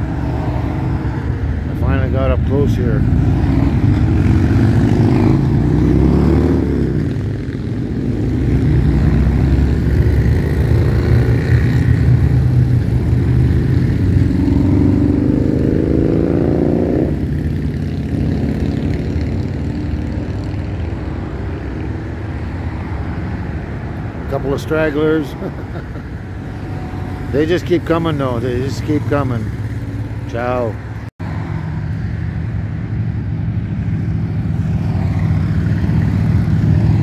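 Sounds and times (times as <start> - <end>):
motorcycle revving: 0.0 - 37.0
motorcycles riding past: 0.0 - 37.0.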